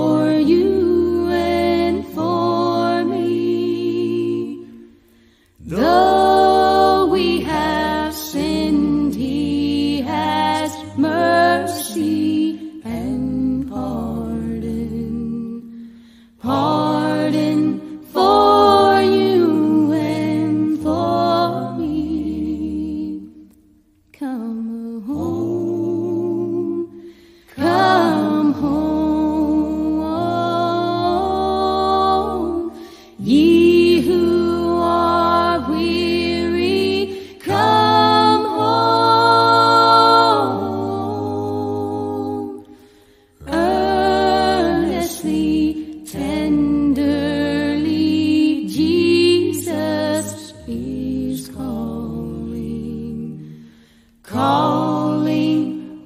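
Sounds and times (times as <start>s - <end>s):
voices singing a hymn in harmony: 0.0s - 23.6s, 24.2s - 56.0s.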